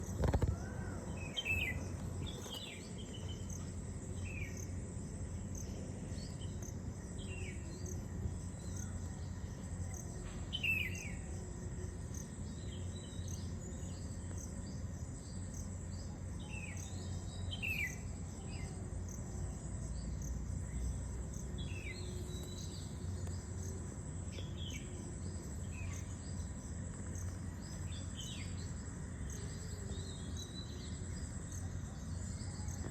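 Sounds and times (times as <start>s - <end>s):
high insect drone: 0.0s - 32.9s
low steady rumble: 0.0s - 32.9s
small birds chirping: 0.0s - 32.9s.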